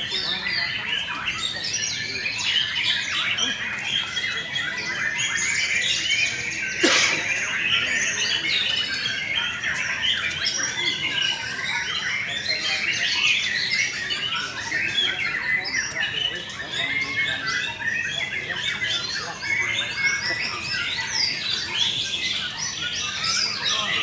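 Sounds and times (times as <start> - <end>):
many caged birds singing: 0.0 - 24.0.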